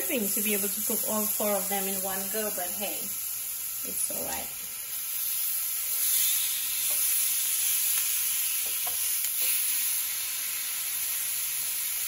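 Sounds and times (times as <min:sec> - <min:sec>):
fish sizzling on griddle pan: 0:00.0 - 0:12.0.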